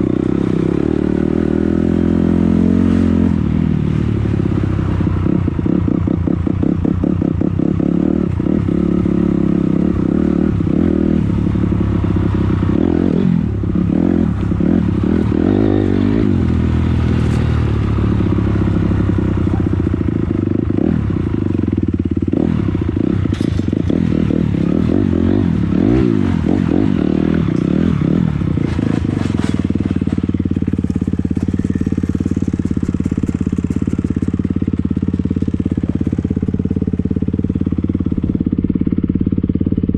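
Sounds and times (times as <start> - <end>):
dirt bike engine revving: 0.0 - 39.2.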